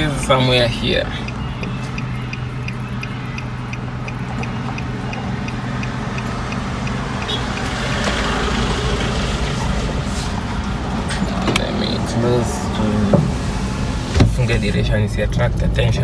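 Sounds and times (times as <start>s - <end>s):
car engine and road noise: 0.0s - 16.0s
turn signal ticking: 0.0s - 16.0s.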